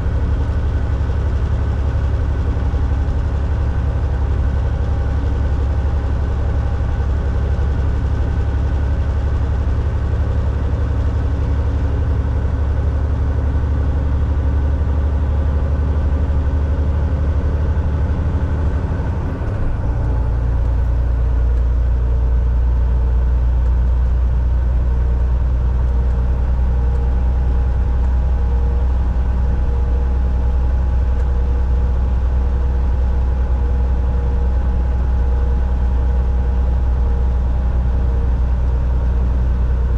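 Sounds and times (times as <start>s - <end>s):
road noise: 0.0s - 39.9s
truck diesel engine droning: 0.0s - 39.9s.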